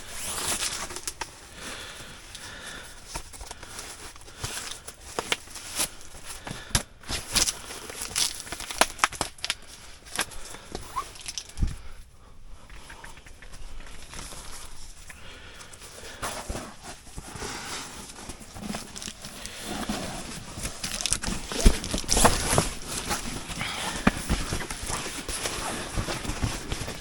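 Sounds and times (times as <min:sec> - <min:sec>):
rustling: 0:00.0 - 0:27.0.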